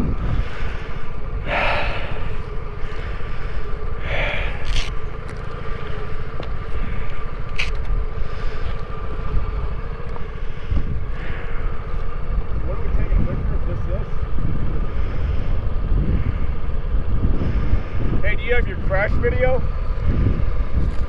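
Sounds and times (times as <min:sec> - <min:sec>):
scooter engine cruising: 0:00.0 - 0:21.0
wind rumble on microphone: 0:00.0 - 0:21.0.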